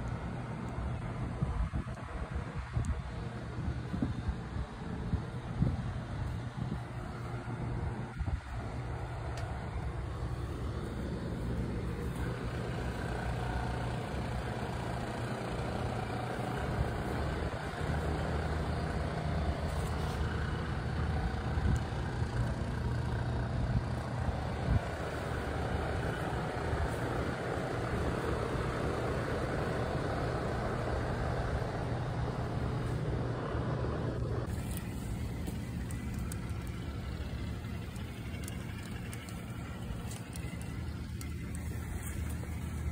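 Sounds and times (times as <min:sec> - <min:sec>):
engine droning: 0:00.0 - 0:42.9.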